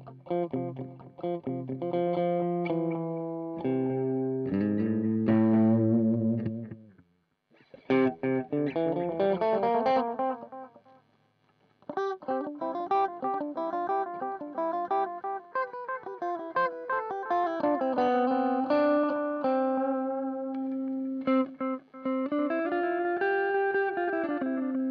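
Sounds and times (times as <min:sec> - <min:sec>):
electric guitar with delay: 0:00.0 - 0:06.8, 0:07.8 - 0:10.8, 0:11.9 - 0:24.9.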